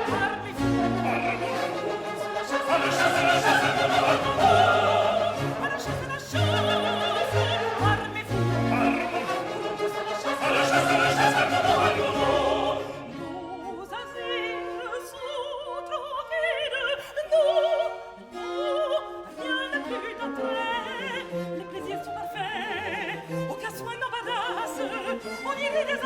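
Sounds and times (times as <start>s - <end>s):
orchestra playing: 0.0s - 26.0s.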